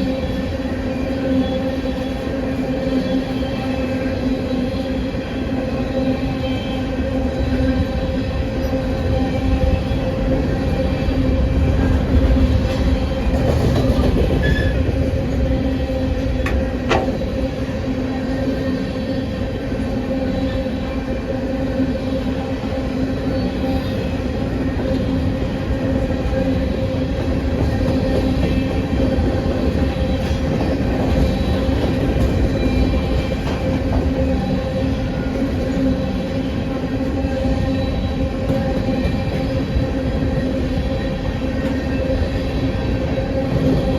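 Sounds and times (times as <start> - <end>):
train running: 0.0 - 43.9.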